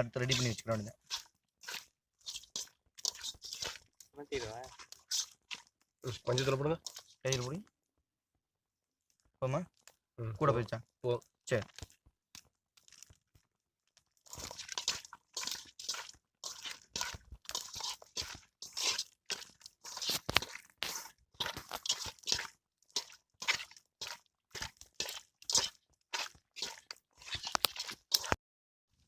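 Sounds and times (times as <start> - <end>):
hands squelching raw chicken: 0.0 - 7.7, 11.6 - 28.4.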